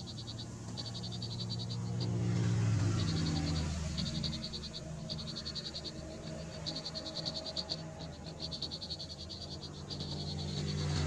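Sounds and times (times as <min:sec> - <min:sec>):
frogs trilling: 0:00.0 - 0:11.0.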